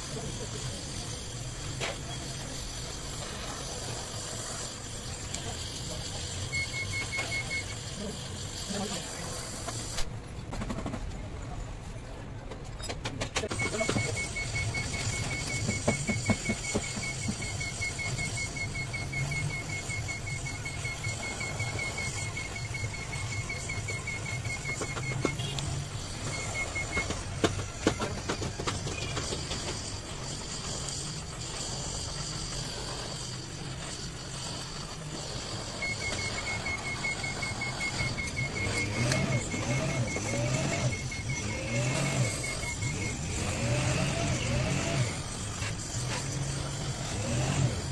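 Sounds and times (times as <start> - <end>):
welding torch hissing: 0.0 - 10.1, 13.5 - 47.9.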